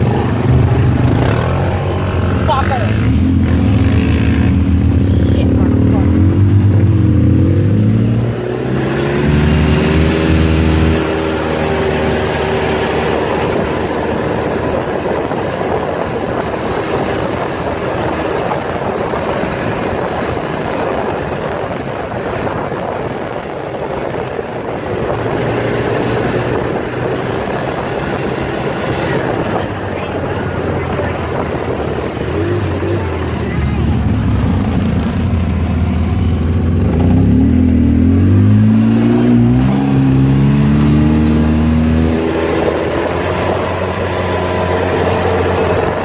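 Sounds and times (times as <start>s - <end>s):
vehicle engine running at speed: 0.0s - 46.0s.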